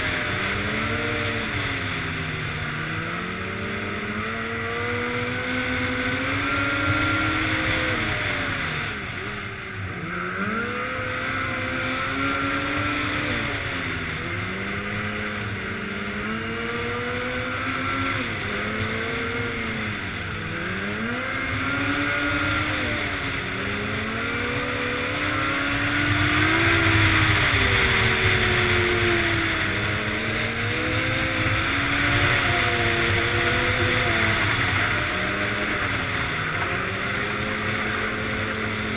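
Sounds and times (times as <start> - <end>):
snowmobile engine running hard: 0.0 - 38.9.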